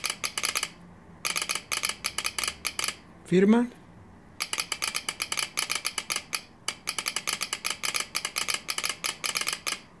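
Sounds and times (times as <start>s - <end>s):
telegraph key clicking: 0.0s - 3.0s, 4.4s - 9.9s.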